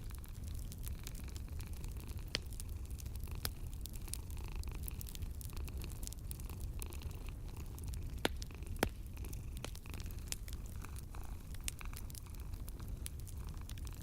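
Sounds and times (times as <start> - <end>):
cat purring: 0.0 - 14.0
wood fire crackling: 0.0 - 14.0.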